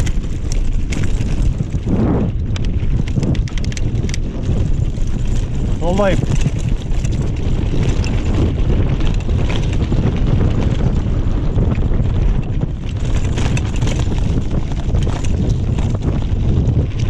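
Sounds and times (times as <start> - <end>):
bike clicks and rattles: 0.0 - 17.0
wind rumbling on microphone: 0.0 - 17.0.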